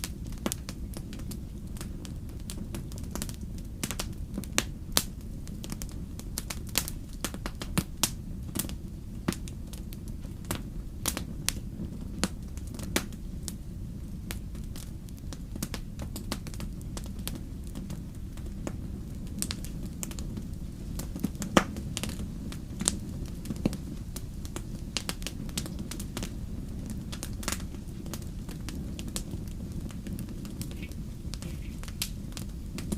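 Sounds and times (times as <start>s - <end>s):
firewood crackling and popping: 0.0s - 32.9s
steady low rumble: 0.0s - 32.9s.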